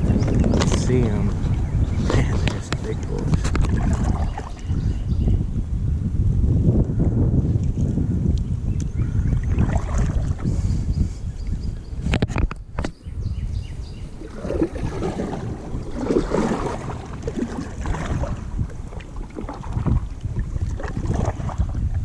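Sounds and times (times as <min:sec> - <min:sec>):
water moving around kayak: 0:00.0 - 0:05.8, 0:08.6 - 0:22.0
wind buffeting microphone: 0:00.0 - 0:22.0.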